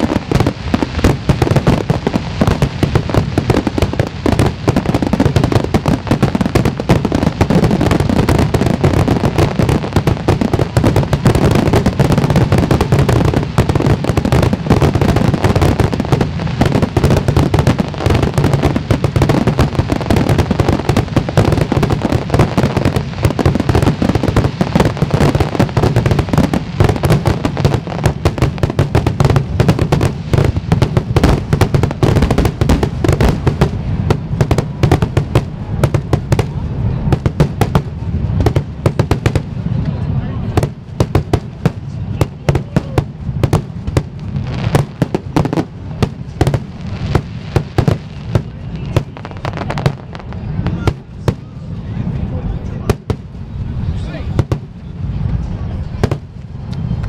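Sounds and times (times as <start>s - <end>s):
fireworks bursting in rapid barrage: 0.0s - 51.8s, 52.5s - 57.0s.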